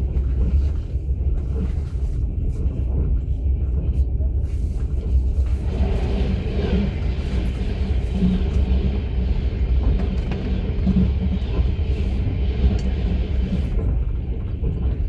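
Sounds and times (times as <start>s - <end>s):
train running gear rumbling: 0.0s - 15.0s.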